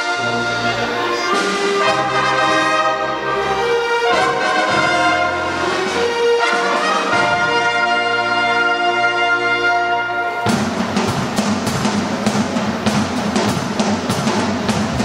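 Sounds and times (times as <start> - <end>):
brass: 0.0 - 15.0
large ensemble playing film music: 0.0 - 15.0.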